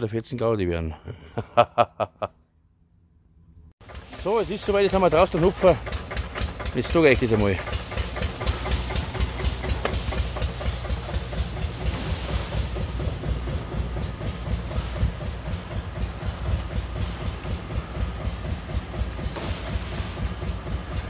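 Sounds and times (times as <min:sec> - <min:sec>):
tractor diesel engine chugging: 0:03.8 - 0:21.0.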